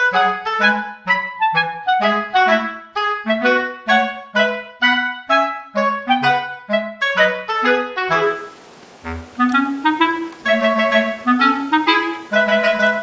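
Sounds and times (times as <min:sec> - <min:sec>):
wind instrument melody: 0:00.0 - 0:13.0.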